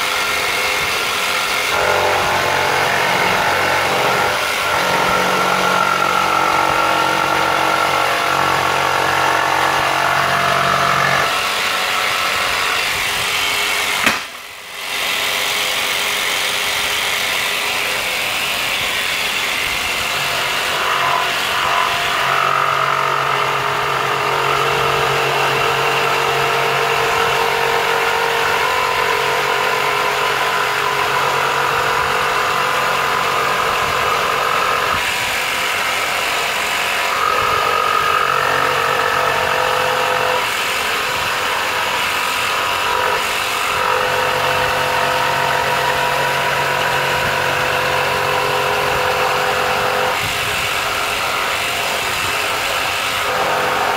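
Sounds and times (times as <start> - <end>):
jigsaw cutting wood: 0.0 - 53.9.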